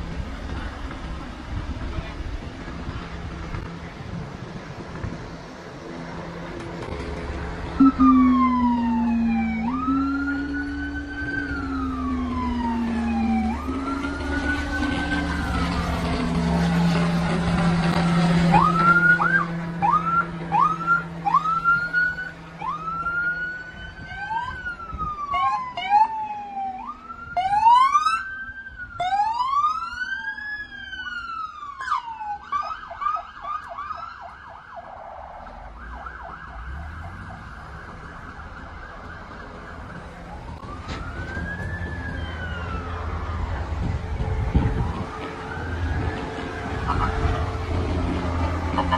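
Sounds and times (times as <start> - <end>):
engine hum: 0.0 - 48.9
police sirens wailing and yelping: 7.6 - 48.9.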